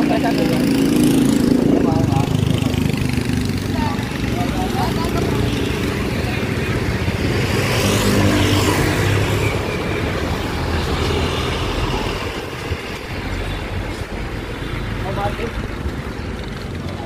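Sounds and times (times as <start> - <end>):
road traffic noise: 0.0 - 17.0
vehicle engine passing by: 0.0 - 17.0.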